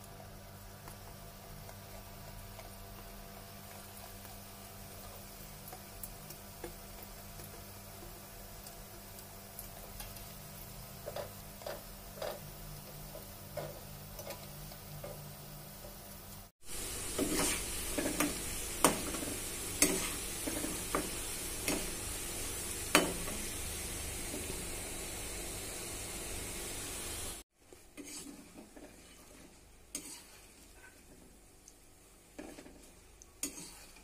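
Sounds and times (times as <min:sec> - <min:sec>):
dough sizzling in hot oil: 0:00.0 - 0:34.0.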